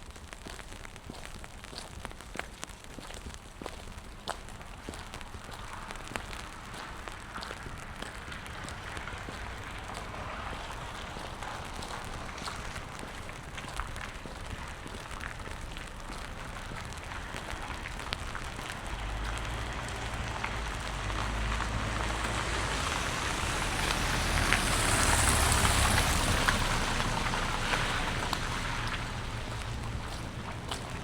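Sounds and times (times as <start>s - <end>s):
rain pattering on pavement: 0.0s - 31.0s
tyre hiss on wet street: 0.0s - 31.0s
low engine rumble: 5.2s - 31.0s.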